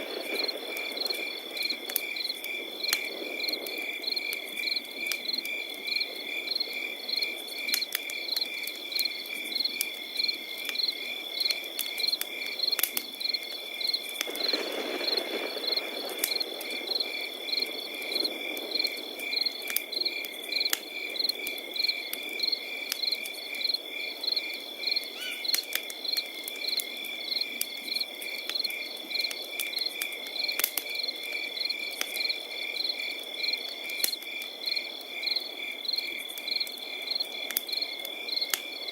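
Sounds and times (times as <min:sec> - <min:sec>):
campfire crackling and popping: 0:00.0 - 0:38.9
crickets chirping: 0:00.0 - 0:38.9
rush of flames: 0:00.0 - 0:38.9.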